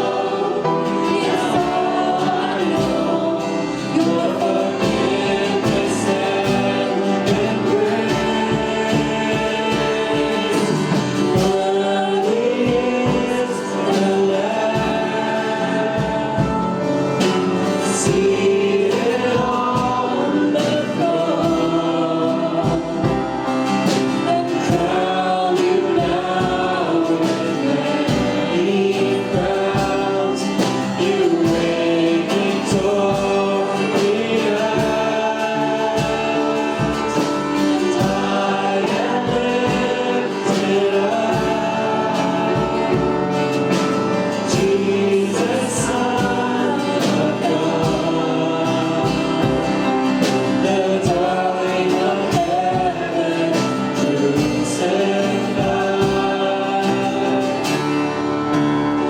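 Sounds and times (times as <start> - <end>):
group singing gospel song: 0.0 - 59.0
instrumental accompaniment with beat: 0.0 - 59.0.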